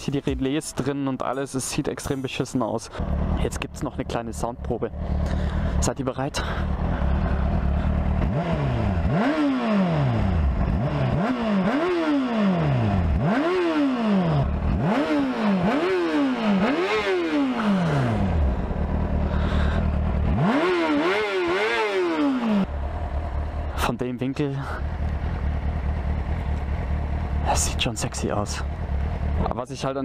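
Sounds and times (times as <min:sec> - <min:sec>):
motorcycle engine idling: 0:02.8 - 0:30.0
motorcycle engine revving: 0:02.9 - 0:29.6.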